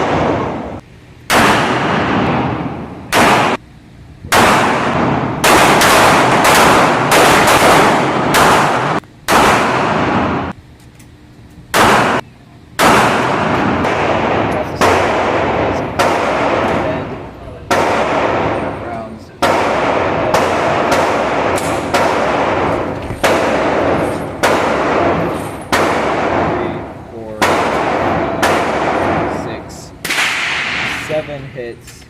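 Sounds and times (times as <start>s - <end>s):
echoing gunshots: 0.0s - 3.7s, 4.3s - 10.6s, 11.7s - 12.2s, 12.8s - 31.7s.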